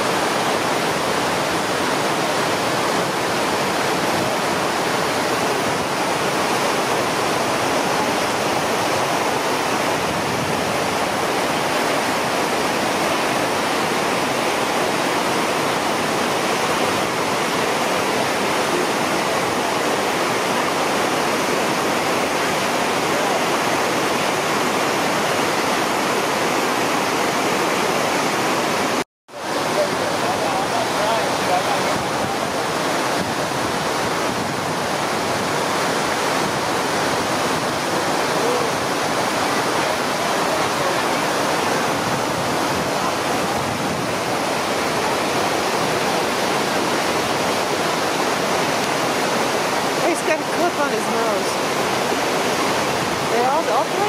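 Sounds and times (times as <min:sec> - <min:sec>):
whitewater rushing over rocks: 0:00.0 - 0:54.0.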